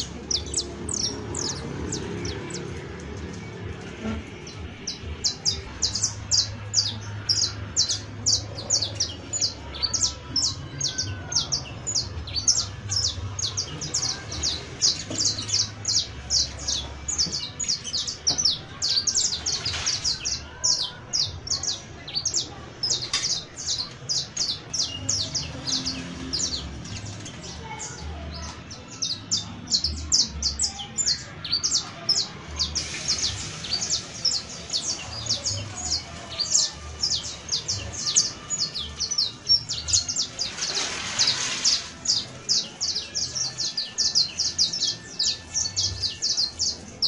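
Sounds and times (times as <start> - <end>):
finch singing high sharp notes: 0.0 - 47.0.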